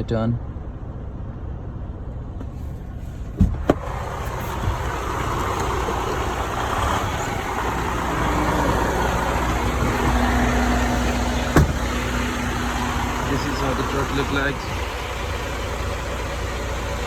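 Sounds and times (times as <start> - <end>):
diesel truck engine idling: 2.2 - 17.0.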